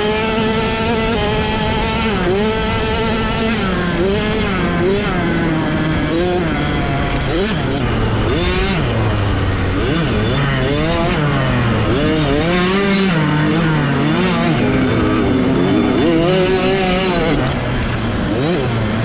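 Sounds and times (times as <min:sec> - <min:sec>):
two-stroke motocross bike engine revving: 0:00.0 - 0:19.0.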